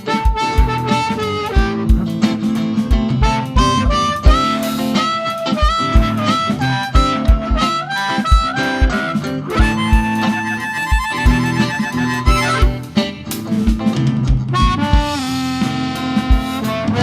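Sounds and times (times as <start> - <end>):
harmonica with bending notes: 0.0 - 13.5, 14.5 - 17.0
blues band playing: 0.0 - 17.0.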